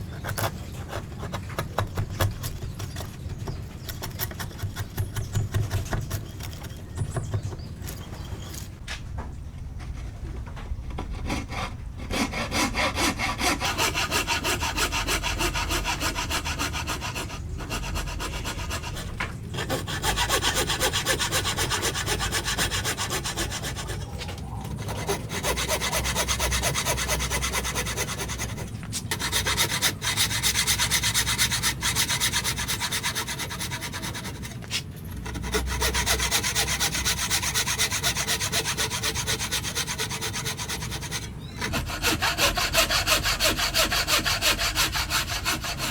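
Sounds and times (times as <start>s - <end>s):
hand saw cutting wood: 0.0s - 8.8s, 10.9s - 45.9s.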